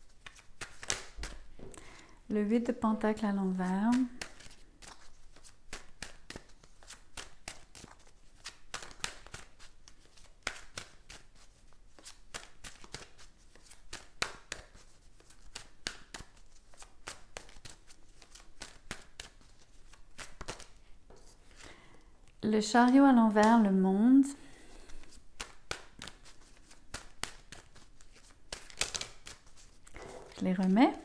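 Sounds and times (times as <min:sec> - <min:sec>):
playing cards being shuffled: 0:00.1 - 0:01.5, 0:03.6 - 0:21.7, 0:24.8 - 0:31.0.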